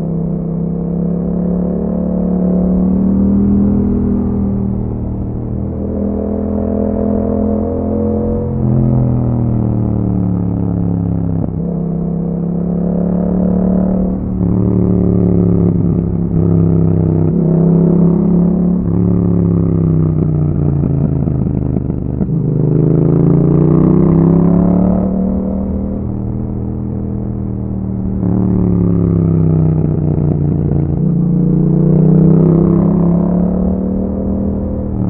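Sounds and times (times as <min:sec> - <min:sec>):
motorcycle engine under power: 0:00.0 - 0:35.0.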